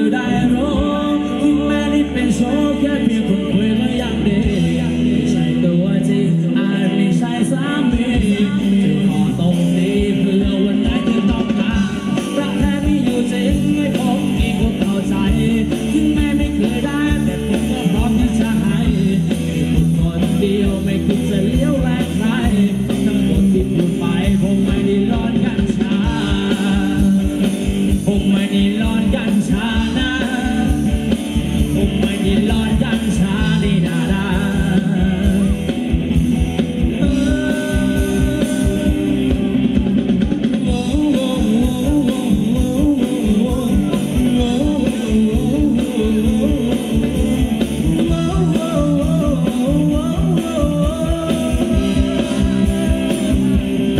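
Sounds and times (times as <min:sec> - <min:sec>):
person singing: 0:00.0 - 0:35.9, 0:36.9 - 0:53.9
driving drum beat: 0:00.0 - 0:53.9
live band playing dance music: 0:00.0 - 0:53.9.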